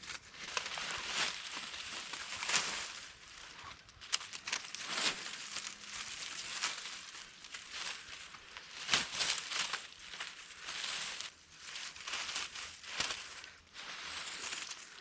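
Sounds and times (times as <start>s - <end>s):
dry leaves and twigs rustling: 0.0s - 15.0s.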